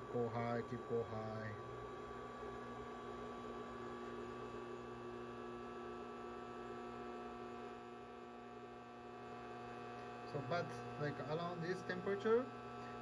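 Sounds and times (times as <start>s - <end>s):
induction cooktop humming: 0.0s - 13.0s.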